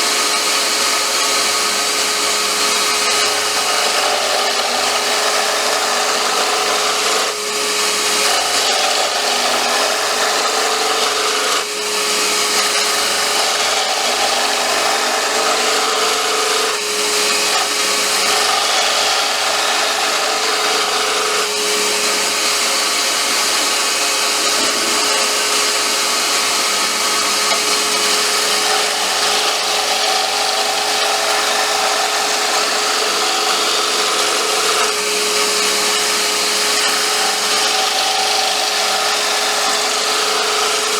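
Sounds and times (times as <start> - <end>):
lathe motor whine: 0.0 - 40.9
lathe tool cutting wood: 0.0 - 40.9.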